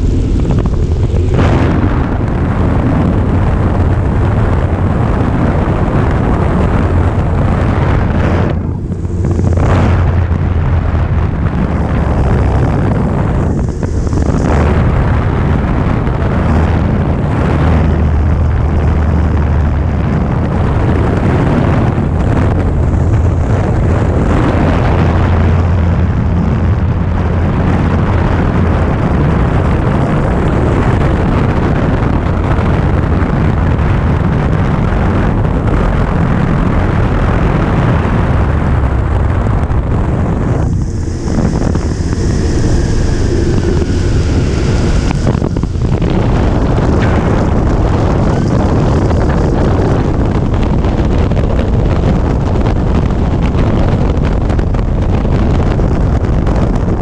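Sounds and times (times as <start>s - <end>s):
airplane piston engine drone: 0.0s - 57.0s
wind rushing over microphone: 0.0s - 57.0s.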